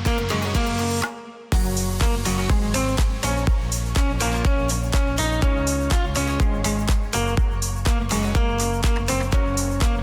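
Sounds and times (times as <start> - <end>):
electronic music with drum beat: 0.0 - 10.0
deep bass hit: 1.6 - 10.0.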